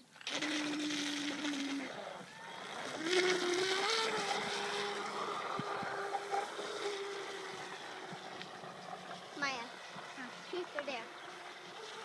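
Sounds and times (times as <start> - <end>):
electric motor whining: 0.4 - 12.0.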